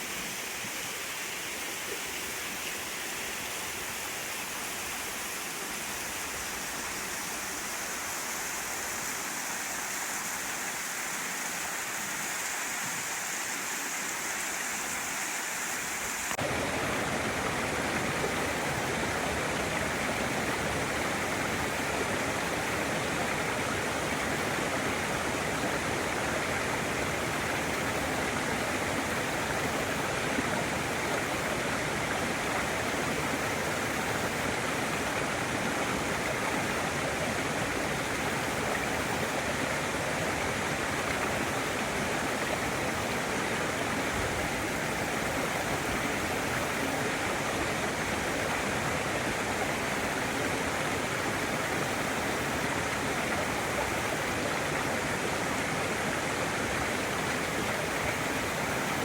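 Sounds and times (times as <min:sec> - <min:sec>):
waterfall rushing: 0:02.2 - 0:59.0.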